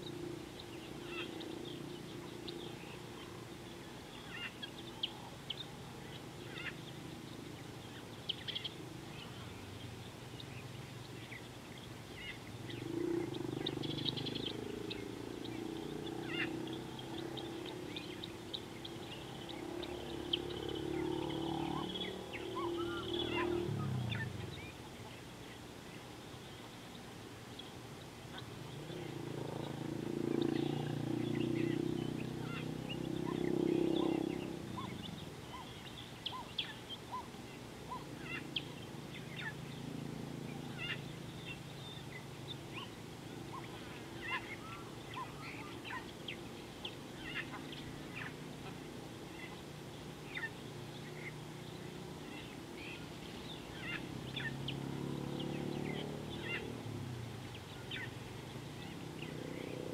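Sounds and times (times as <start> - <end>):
guineafowl chirping: 0.0 - 25.6, 28.3 - 39.9, 40.5 - 56.8, 57.4 - 59.9.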